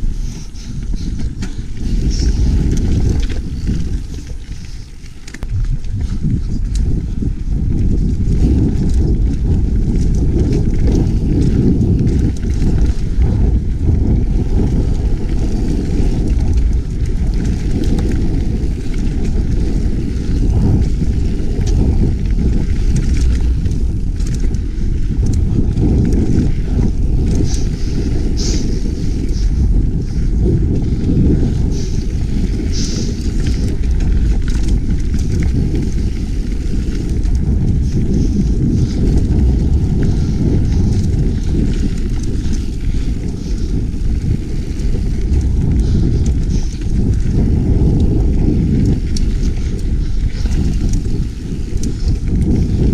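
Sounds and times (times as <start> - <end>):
bike rattling and clicking: 0.0 - 52.9
wind on microphone: 0.0 - 52.9.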